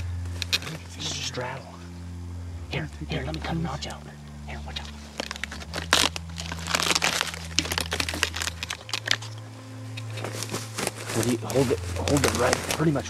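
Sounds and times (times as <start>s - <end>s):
twigs snapping and crackling: 0.0s - 1.4s, 3.1s - 13.0s.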